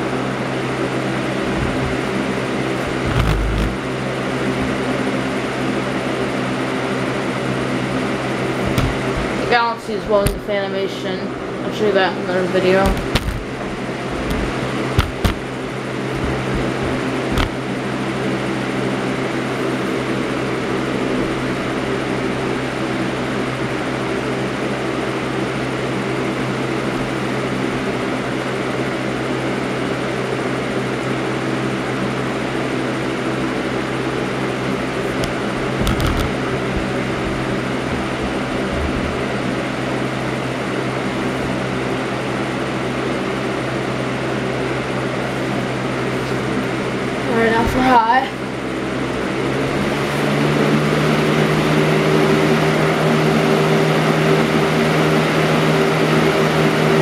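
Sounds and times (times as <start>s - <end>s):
box fan running: 0.0s - 57.0s.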